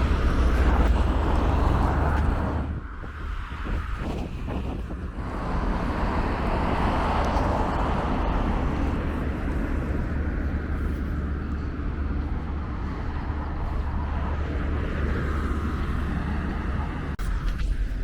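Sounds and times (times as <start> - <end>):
vehicle passing close by: 0.0 - 17.2
road traffic rumble: 0.0 - 18.0.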